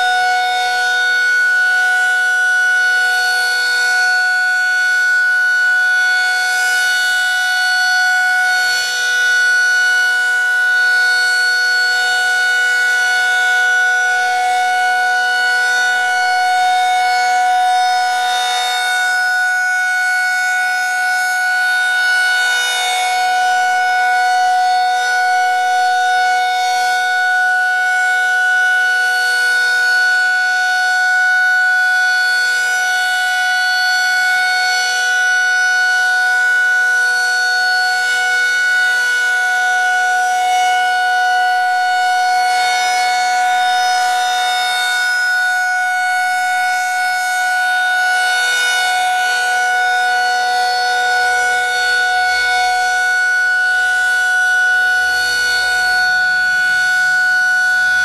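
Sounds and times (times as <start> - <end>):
tornado siren steady tone: 0.0 - 58.0.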